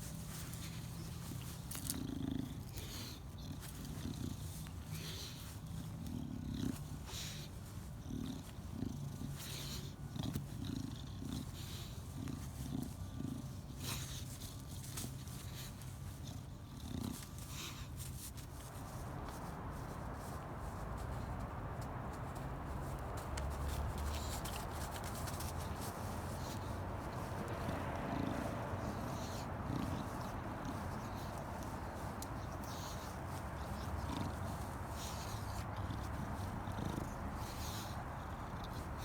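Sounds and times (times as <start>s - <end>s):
dog snorting and grunting: 0.2s - 39.0s.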